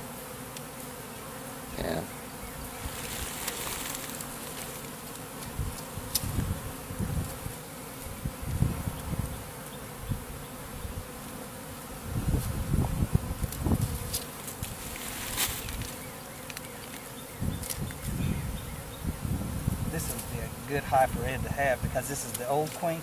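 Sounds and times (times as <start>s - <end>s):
bee swarm humming: 0.0s - 23.0s.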